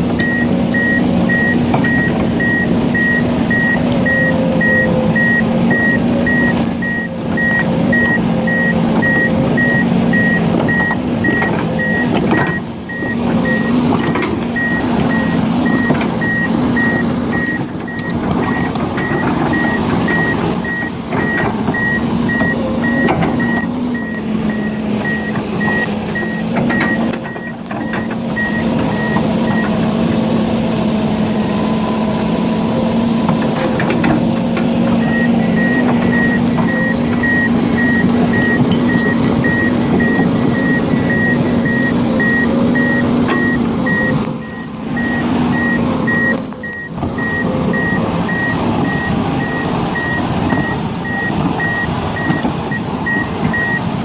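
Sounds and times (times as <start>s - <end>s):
diesel engine running: 0.0s - 54.0s
reversing alarm beeping: 0.2s - 13.8s, 14.6s - 29.8s, 35.0s - 53.9s.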